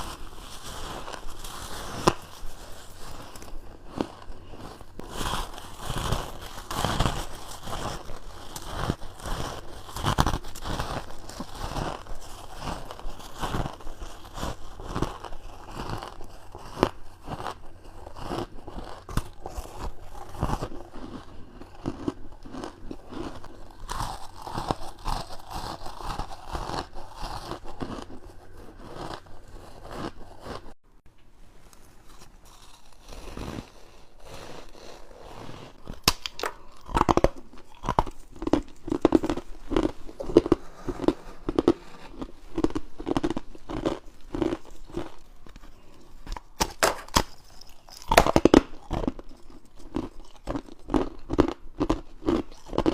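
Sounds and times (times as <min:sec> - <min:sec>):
rhythmic chewing: 0:00.0 - 0:30.8, 0:31.7 - 0:52.9
crunching bites of ice: 0:05.0 - 0:30.6, 0:32.1 - 0:34.9, 0:35.7 - 0:52.9.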